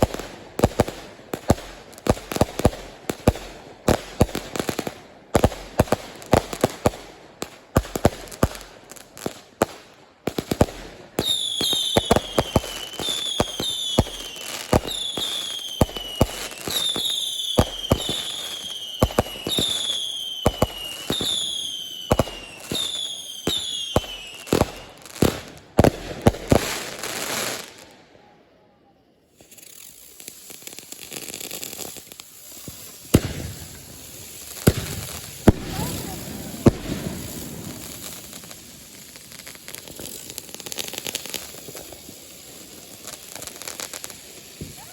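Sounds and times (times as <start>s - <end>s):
fireworks bangs: 0.0s - 27.9s, 29.3s - 44.9s
falling firework whistles: 0.0s - 44.9s
firework crackling and pops: 0.0s - 44.9s.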